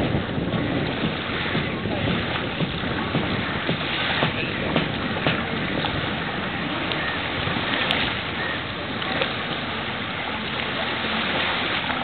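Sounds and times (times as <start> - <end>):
wind and water rushing: 0.0 - 12.0.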